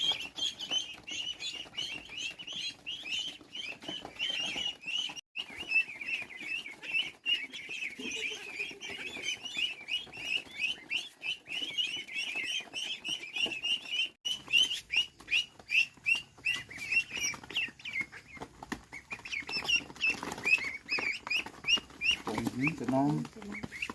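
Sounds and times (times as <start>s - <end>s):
ducklings peeping: 0.0s - 23.9s.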